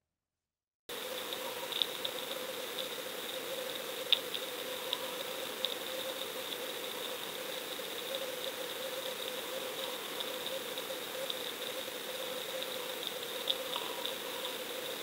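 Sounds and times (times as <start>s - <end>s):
light ticks: 1.2s - 15.0s.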